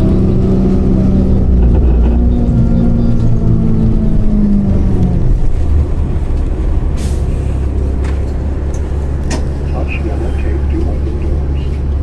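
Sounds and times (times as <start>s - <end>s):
bus engine hum: 0.0s - 12.0s.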